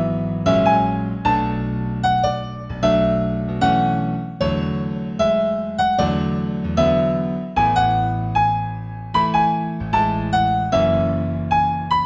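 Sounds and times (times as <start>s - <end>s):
new-age piano melody: 0.0s - 12.0s.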